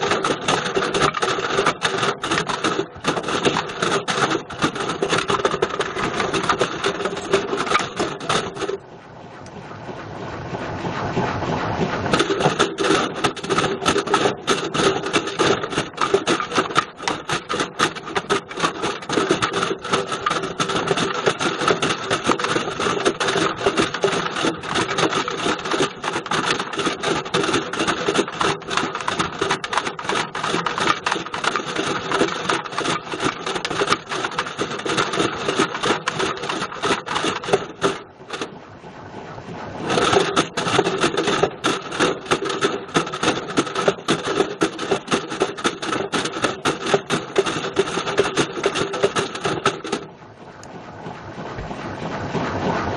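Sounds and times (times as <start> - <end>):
video recorder clattering in washing machine: 0.0 - 8.8, 11.0 - 38.5, 39.8 - 50.1.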